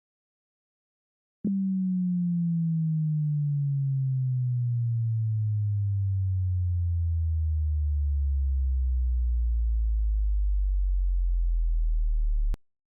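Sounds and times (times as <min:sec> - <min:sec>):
low sine test tone sweeping down: 0:01.5 - 0:12.6.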